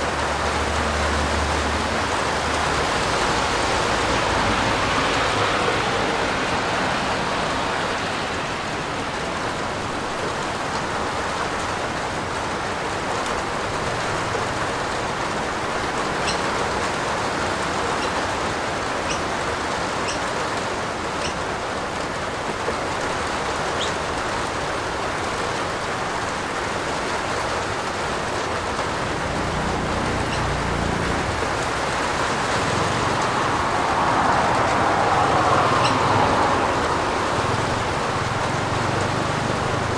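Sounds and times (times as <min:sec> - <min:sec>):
rain drops ticking: 0:00.0 - 0:39.9
steady rain hiss: 0:00.0 - 0:39.9.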